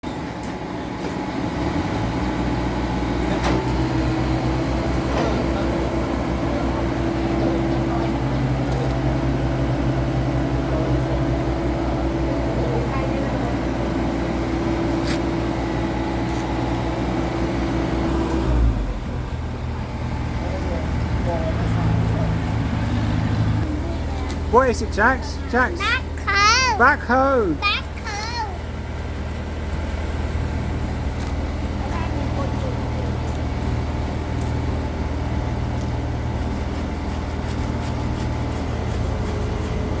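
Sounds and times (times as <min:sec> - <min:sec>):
backhoe engine running: 0:00.1 - 0:40.0.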